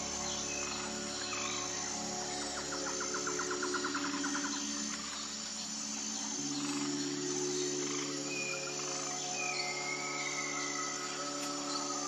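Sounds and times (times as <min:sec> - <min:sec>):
insect trill: 0:00.0 - 0:12.0
soft background music chords: 0:00.0 - 0:12.0.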